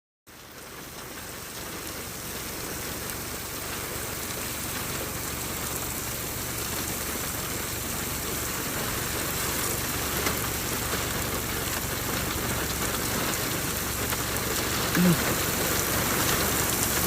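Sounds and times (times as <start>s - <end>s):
heavy rain on hard surfaces: 0.3s - 17.0s.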